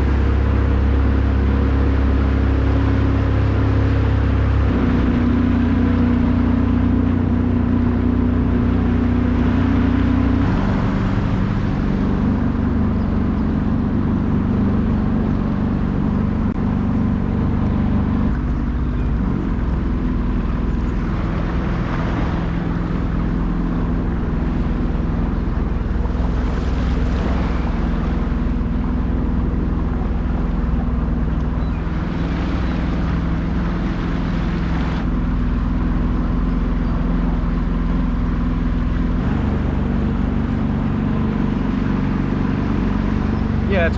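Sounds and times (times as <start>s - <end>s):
jet ski engine running: 0.0s - 43.9s
rushing water: 0.0s - 43.9s
wind: 0.0s - 43.9s.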